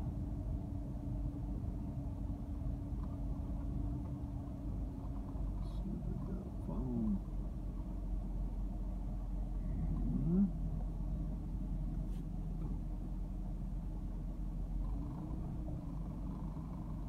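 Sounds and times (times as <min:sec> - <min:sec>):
car cabin rumble: 0:00.0 - 0:17.0
steady hum: 0:00.0 - 0:17.0.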